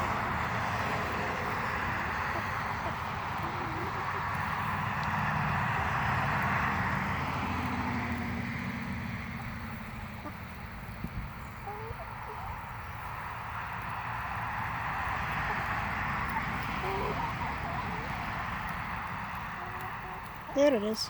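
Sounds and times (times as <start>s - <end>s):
outdoor rumble and hiss: 0.0s - 21.0s
faint chicken calls: 1.2s - 20.5s.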